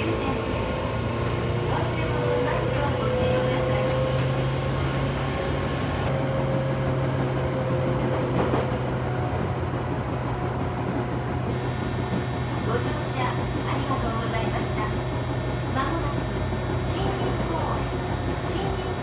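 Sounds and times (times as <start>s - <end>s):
train hum and rolling noise: 0.0s - 19.0s.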